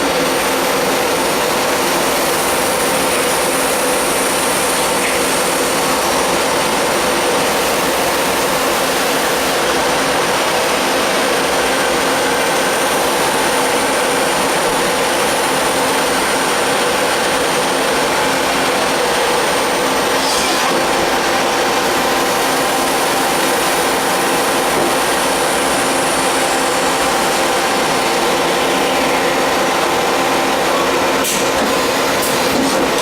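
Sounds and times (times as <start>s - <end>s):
lathe machining metal: 0.0s - 33.0s.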